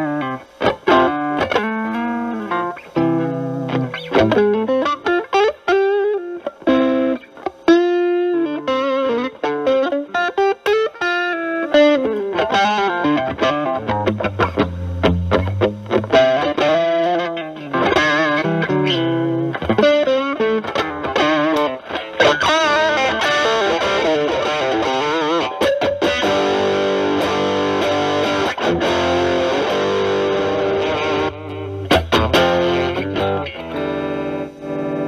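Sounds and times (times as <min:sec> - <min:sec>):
distorted electric guitar lead: 0:00.0 - 0:35.0.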